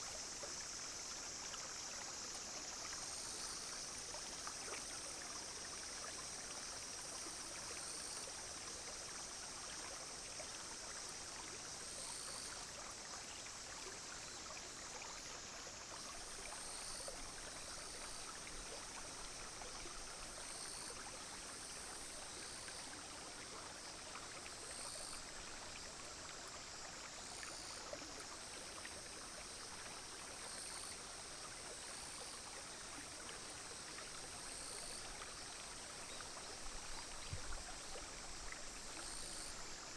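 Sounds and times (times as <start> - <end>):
insects droning: 0.0 - 39.9
stream trickling: 0.0 - 39.9.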